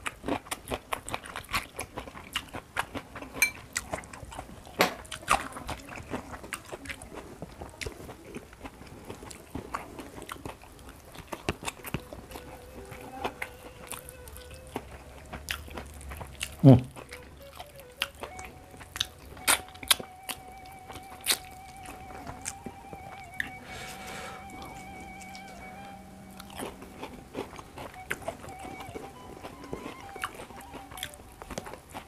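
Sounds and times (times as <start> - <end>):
food crunching while chewing: 0.0 - 32.0.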